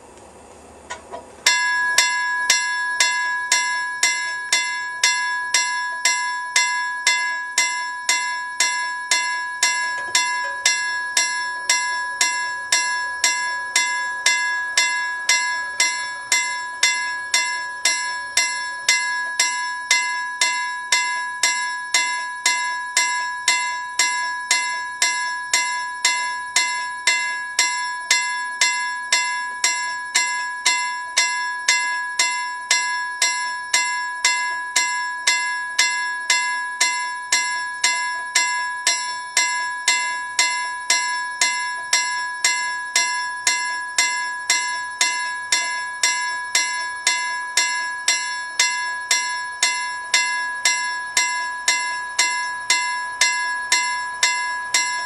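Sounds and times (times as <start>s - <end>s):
level crossing bell ringing: 0.9s - 55.0s.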